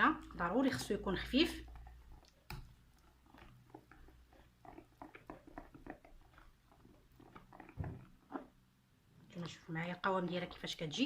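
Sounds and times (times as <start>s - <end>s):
batter being stirred: 0.0s - 11.0s.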